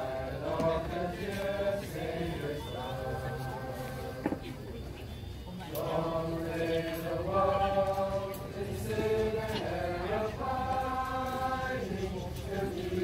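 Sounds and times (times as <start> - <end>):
group singing together: 0.0 - 4.8, 5.6 - 13.0.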